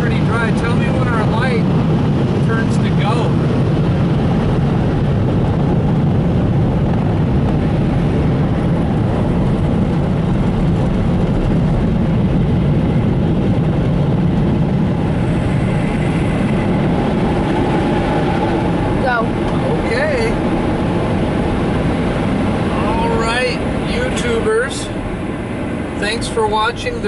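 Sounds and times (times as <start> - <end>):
car wash dryer blowers rushing: 0.0 - 27.0.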